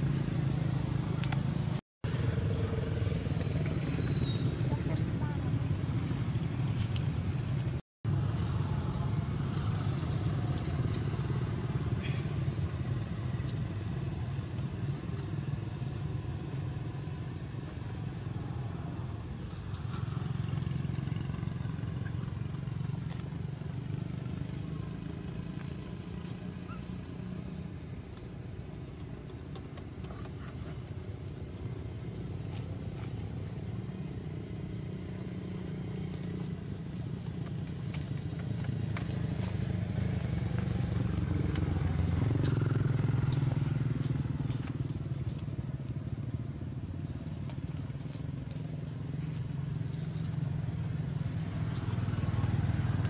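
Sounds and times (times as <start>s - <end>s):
low outdoor rumble: 0.0s - 53.0s.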